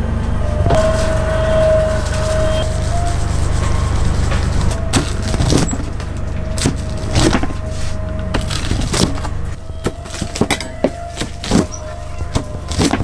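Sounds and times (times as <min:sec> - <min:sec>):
low hum: 0:00.0 - 0:13.0
utensils knocking and clacking: 0:01.8 - 0:13.0.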